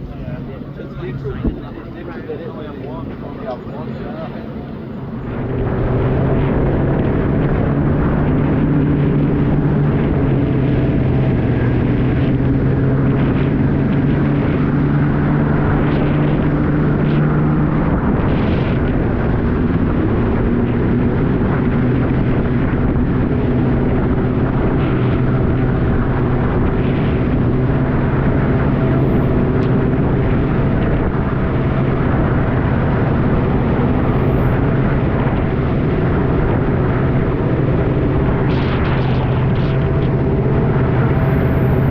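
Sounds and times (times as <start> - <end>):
jet ski engine droning: 0.0 - 41.9.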